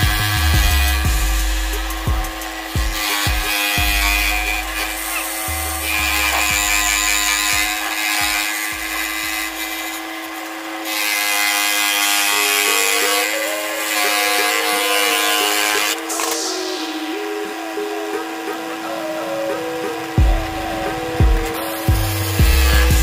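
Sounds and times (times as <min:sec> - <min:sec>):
scroll saw cutting wood: 0:00.0 - 0:23.0.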